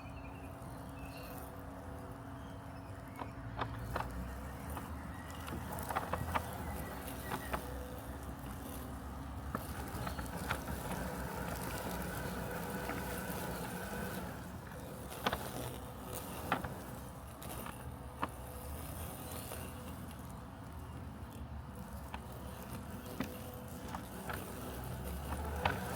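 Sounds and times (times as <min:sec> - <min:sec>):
robotic lawn mower humming: 0:00.0 - 0:25.9.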